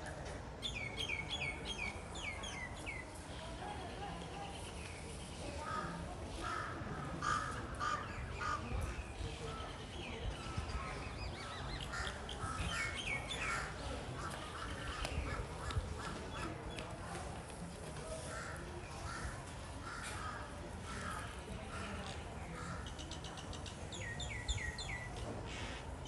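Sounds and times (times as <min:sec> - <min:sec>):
faint people's voices: 0:00.0 - 0:26.0.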